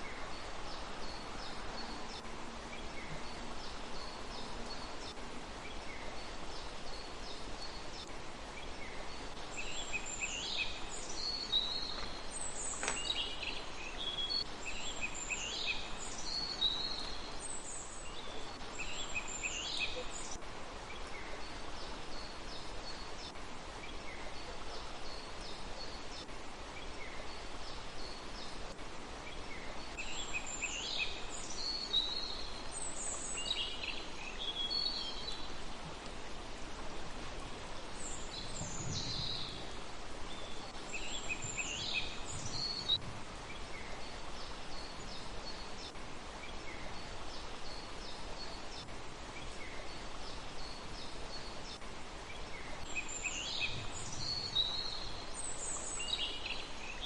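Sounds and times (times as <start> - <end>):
background hiss: 0.0 - 57.0
small birds chirping: 0.0 - 57.0.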